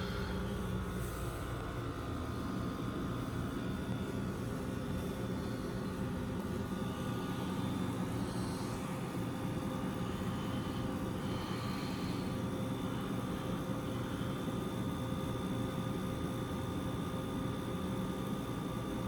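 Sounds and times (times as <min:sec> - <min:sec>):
air conditioner fan rush: 0:00.0 - 0:19.0
constant hum: 0:00.0 - 0:19.0.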